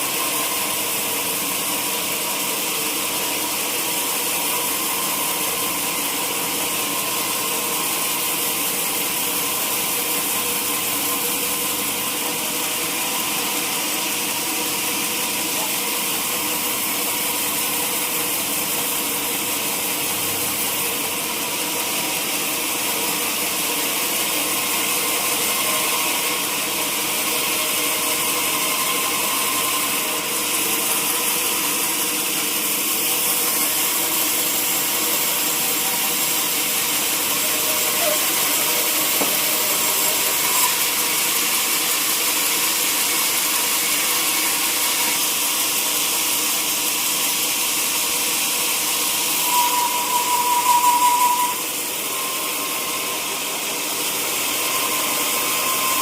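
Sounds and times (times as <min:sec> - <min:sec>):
sawmill saw hissing: 0:00.0 - 0:56.0
wavering saw whine: 0:00.0 - 0:56.0.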